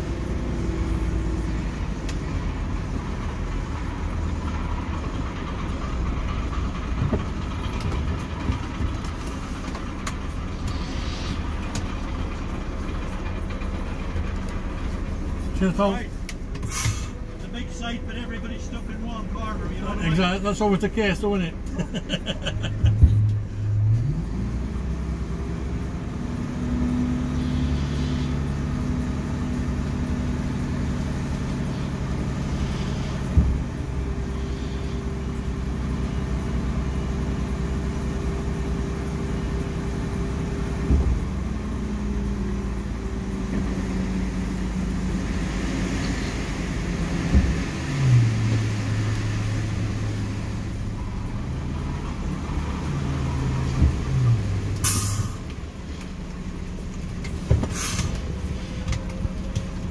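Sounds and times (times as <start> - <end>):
truck diesel engine revving: 0.0 - 59.9.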